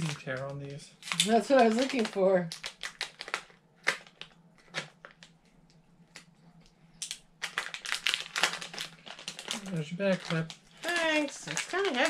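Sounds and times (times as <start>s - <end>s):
plastic bag crinkling: 0.0s - 5.4s, 7.0s - 12.0s.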